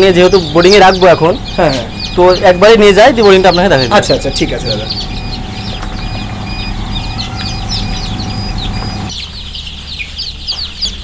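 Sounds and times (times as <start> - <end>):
chicks peeping: 0.0 - 11.0
incubator hum: 0.0 - 11.0.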